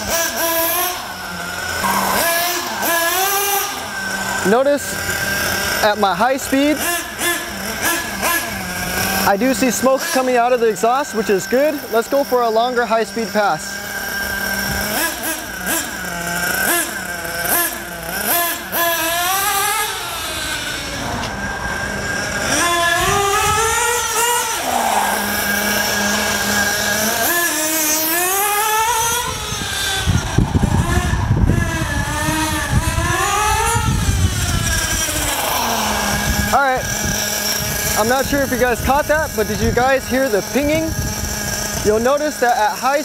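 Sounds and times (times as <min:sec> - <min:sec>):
rough low engine rasp: 0:00.0 - 0:43.0
small engine high-pitched whine: 0:00.0 - 0:43.0.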